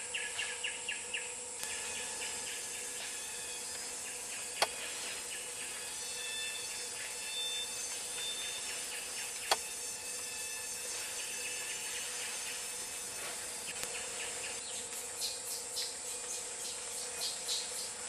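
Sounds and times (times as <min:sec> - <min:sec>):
insects chirping in pulses: 0:00.0 - 0:18.0
insects droning: 0:00.0 - 0:18.0.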